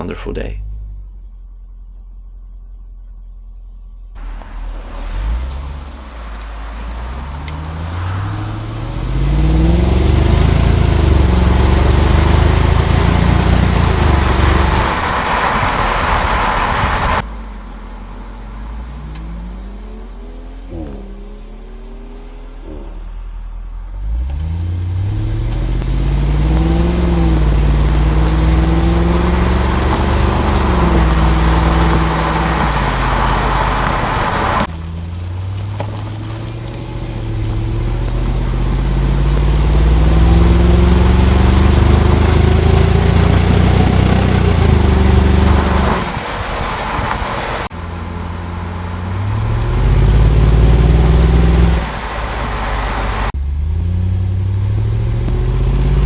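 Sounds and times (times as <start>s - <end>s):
car exhaust accelerating: 0.0s - 1.4s, 4.2s - 56.0s.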